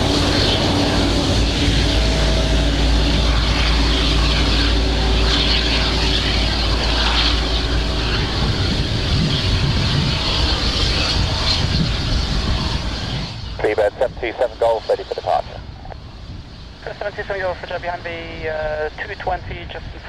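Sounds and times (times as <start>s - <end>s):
jet engines rumbling at taxi: 0.0s - 20.0s.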